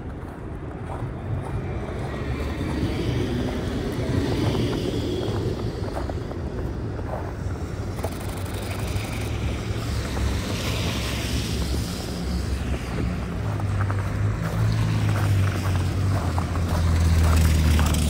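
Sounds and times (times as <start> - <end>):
electric streetcar passing: 0.0 - 18.0.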